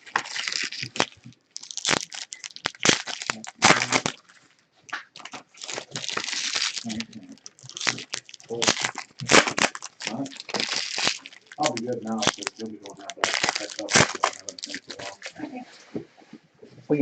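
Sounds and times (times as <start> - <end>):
cardboard packaging crinkling and tearing: 0.0 - 15.4
sharp cracks of packaging: 0.0 - 15.4.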